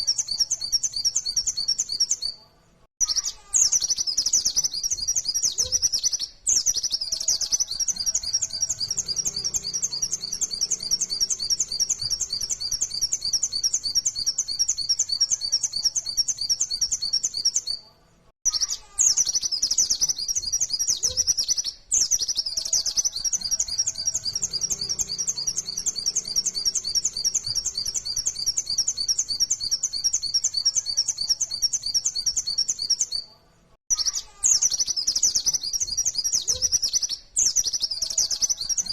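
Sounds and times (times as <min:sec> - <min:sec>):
bird singing a fast trill: 0:00.0 - 0:02.4, 0:03.0 - 0:17.8, 0:18.4 - 0:33.3, 0:33.9 - 0:38.9.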